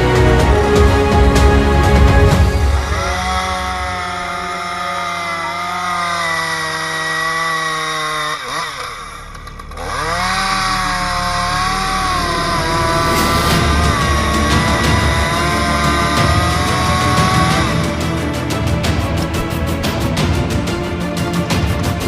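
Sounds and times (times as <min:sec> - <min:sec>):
chainsaw engine revving: 0:02.3 - 0:21.5.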